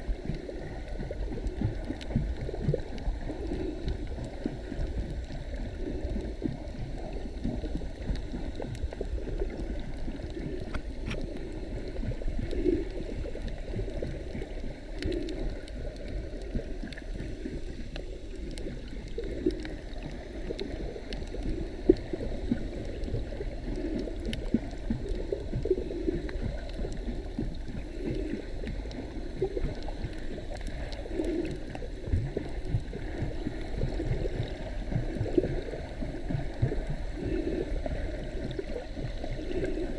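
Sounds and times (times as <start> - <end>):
underwater rumble and gurgle: 0.0 - 39.9
faint clicks: 1.3 - 37.4.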